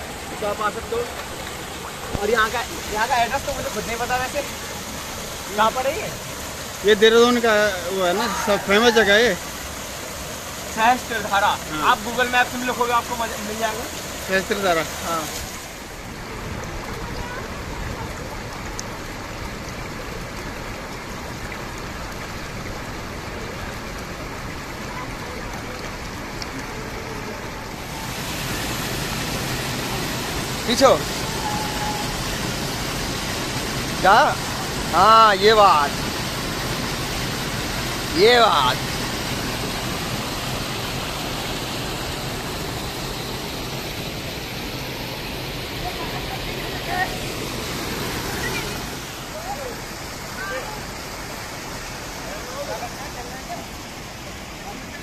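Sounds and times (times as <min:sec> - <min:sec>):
flowing water: 0:00.0 - 0:55.0
water pouring over stone ledge: 0:00.0 - 0:55.0.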